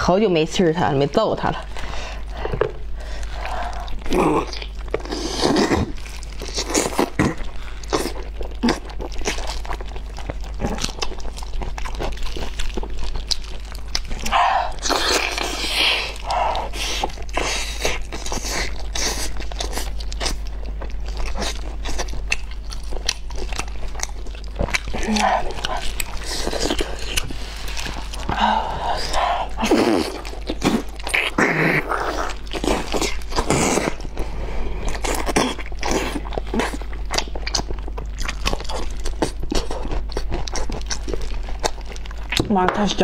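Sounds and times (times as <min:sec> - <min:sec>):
biting and chewing: 0:01.6 - 0:43.0.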